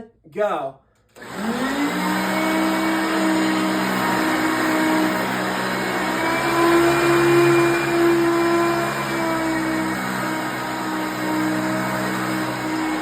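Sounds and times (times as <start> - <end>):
vacuum cleaner running: 1.1 - 13.0.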